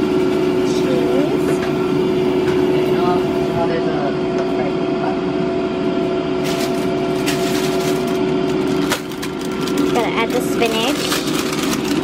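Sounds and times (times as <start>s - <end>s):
electric fan motor humming: 0.0s - 12.0s.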